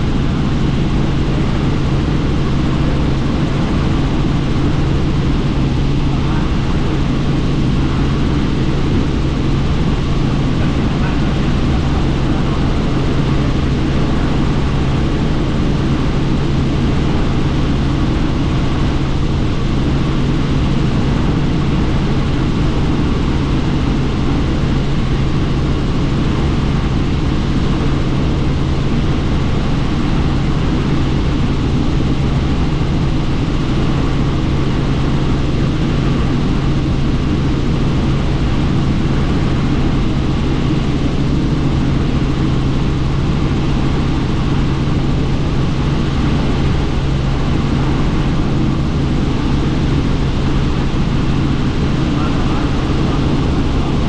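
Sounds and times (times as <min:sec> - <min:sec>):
helicopter engine and rotor noise: 0:00.0 - 0:54.0.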